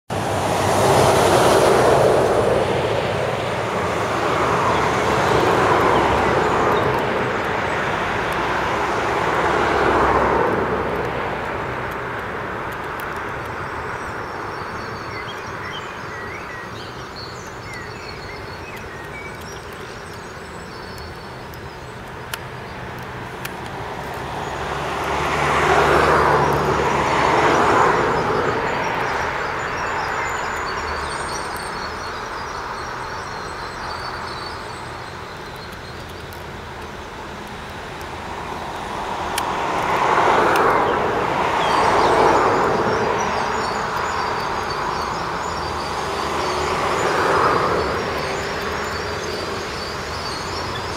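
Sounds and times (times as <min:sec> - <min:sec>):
birds chirping: 0:00.8 - 0:50.9.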